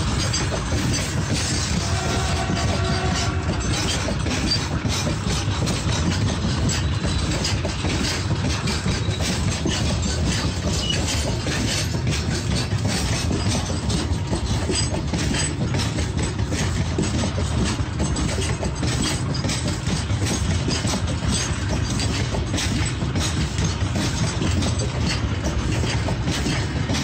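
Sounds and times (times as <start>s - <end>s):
steel wheels rumbling on rails: 0.0s - 27.0s
wheels clattering over rail joints: 0.0s - 27.0s.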